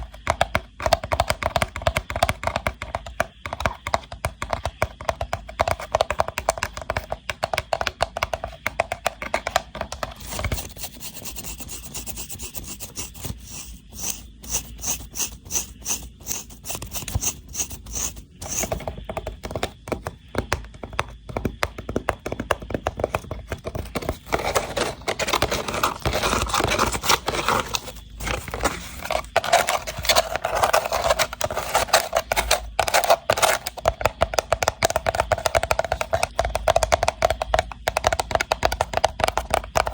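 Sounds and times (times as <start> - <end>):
scratching and tapping on wicker: 0.0 - 39.9.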